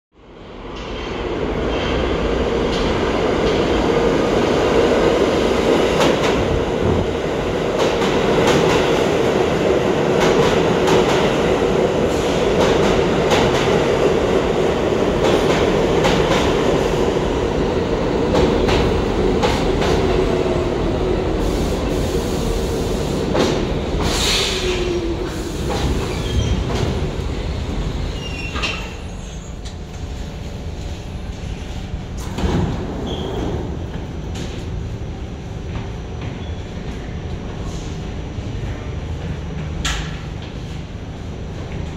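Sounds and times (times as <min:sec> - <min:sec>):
train wheels rumbling on rails: 0:00.5 - 0:41.9.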